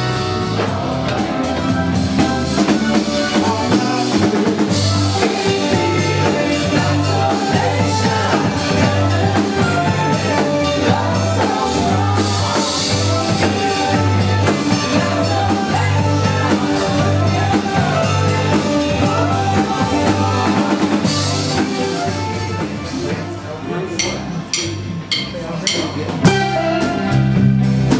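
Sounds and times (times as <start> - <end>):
drum kit beat: 0.0 - 27.9
live rock band playing: 0.0 - 27.9
pulsing bass line: 0.0 - 27.9.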